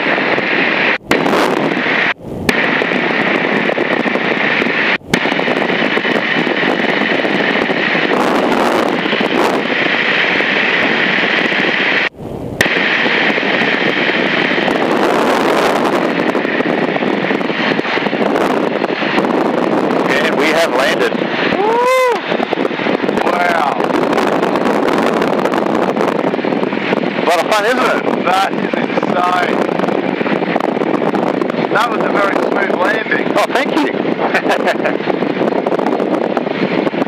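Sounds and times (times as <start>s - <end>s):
radial aircraft engine droning: 0.0s - 37.0s
rush of air: 0.0s - 37.0s.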